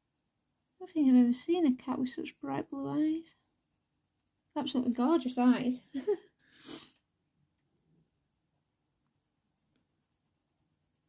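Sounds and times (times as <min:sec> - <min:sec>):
pencil scratching on paper: 0:00.0 - 0:05.8, 0:07.7 - 0:11.0.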